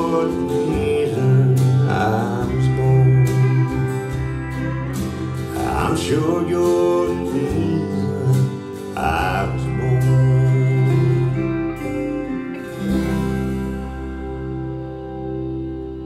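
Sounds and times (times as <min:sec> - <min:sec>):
guitar-led country instrumental: 0:00.0 - 0:16.0.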